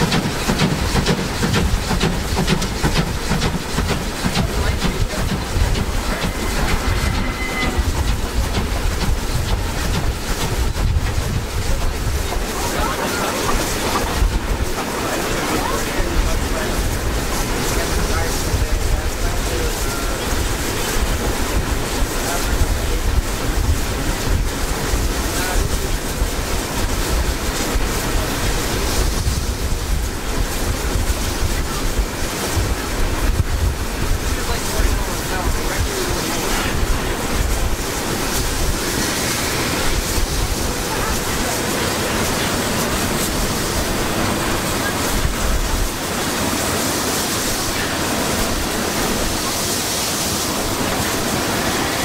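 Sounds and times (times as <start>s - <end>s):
wind buffeting microphone: 0.0s - 51.6s
deep rumble of wheels on rails: 0.0s - 52.0s
steam locomotive chuffing: 0.0s - 52.0s.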